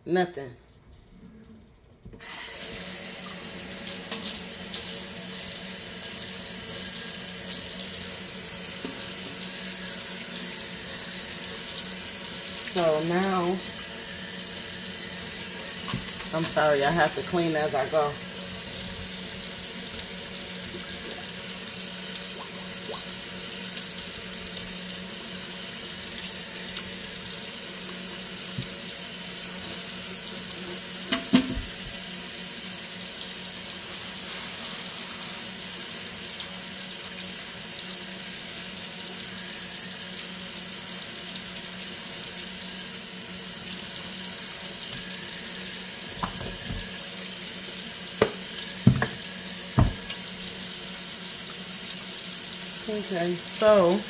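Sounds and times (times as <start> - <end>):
faucet running into sink: 2.2 - 54.0.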